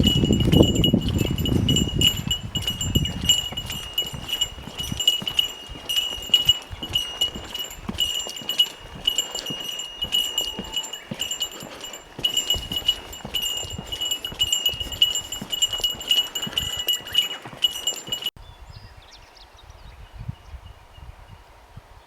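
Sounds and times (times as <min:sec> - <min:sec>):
soft footfalls: 0:00.0 - 0:18.3
small metal bell jingling: 0:00.0 - 0:18.4.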